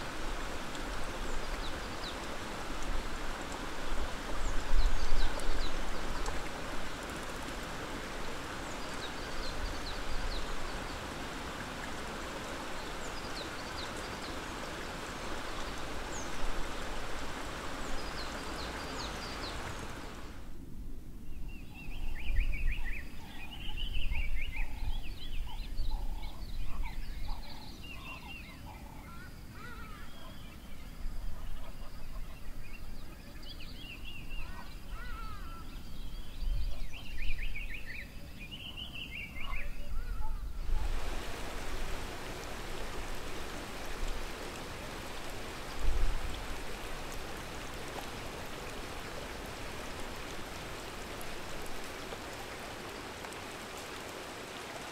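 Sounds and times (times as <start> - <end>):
steady hiss: 0.0 - 21.2, 27.8 - 54.9.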